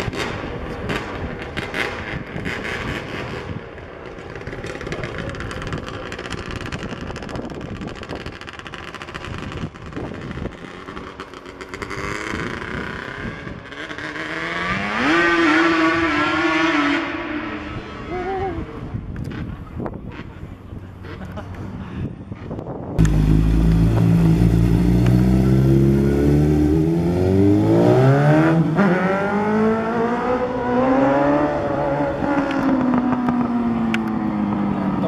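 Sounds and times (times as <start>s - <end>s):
go-kart motorcycle engine revving: 0.0s - 18.2s, 23.0s - 35.0s.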